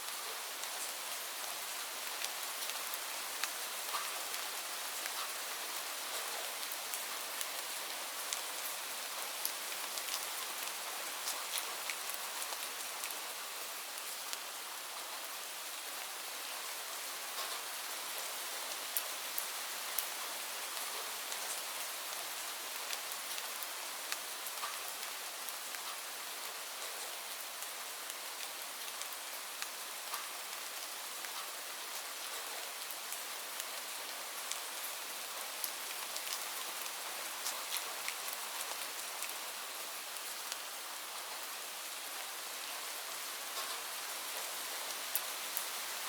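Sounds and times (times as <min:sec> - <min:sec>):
raindrops ticking on a surface: 0:00.0 - 0:46.0
steady rain hiss: 0:00.0 - 0:46.0.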